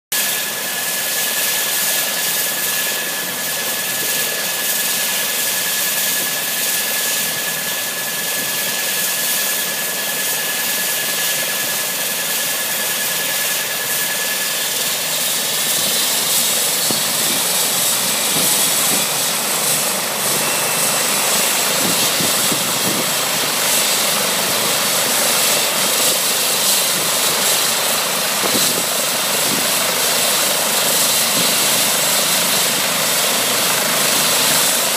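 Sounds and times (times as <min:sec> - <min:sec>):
helicopter turbines whining: 0:00.2 - 0:34.9.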